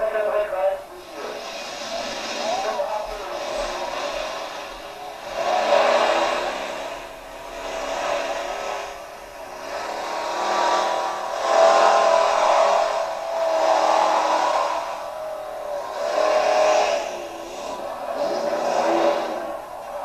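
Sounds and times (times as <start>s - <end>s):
tractor engine running hard: 0.0s - 20.0s.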